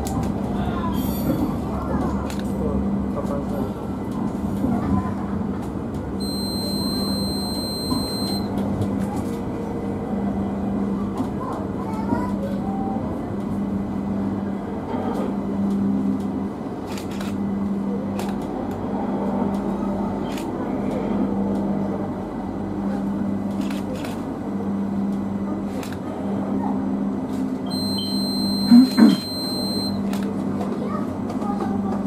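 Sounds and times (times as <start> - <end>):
light-rail train running: 0.0 - 32.0.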